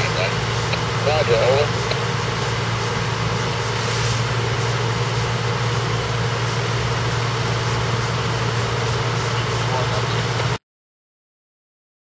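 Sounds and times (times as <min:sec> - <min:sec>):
truck engine idling: 0:00.0 - 0:10.6.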